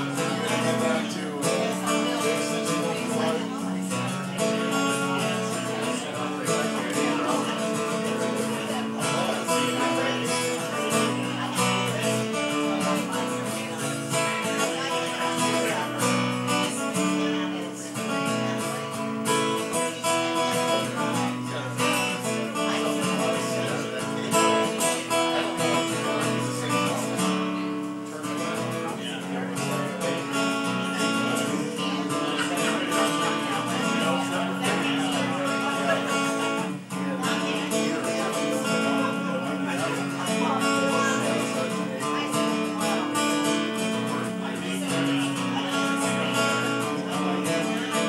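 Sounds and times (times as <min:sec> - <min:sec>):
acoustic guitar strumming: 0:00.0 - 0:48.0.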